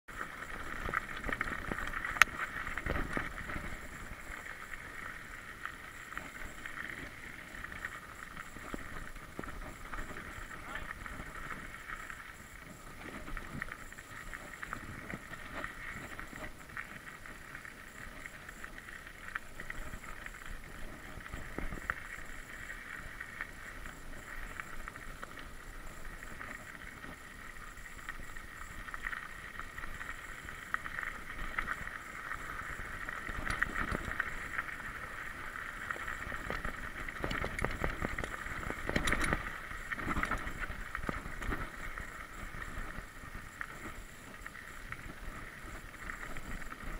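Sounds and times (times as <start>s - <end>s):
bike rattling over bumps: 0.1s - 18.6s, 19.2s - 46.9s
bike tyres rolling on dirt: 0.1s - 46.9s.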